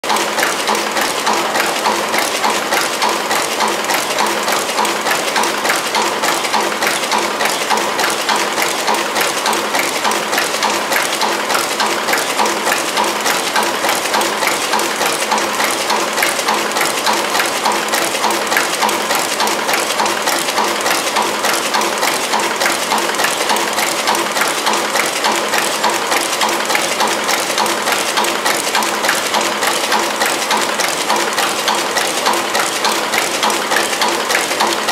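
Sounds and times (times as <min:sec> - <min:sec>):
packing machine clattering: 0:00.0 - 0:34.9.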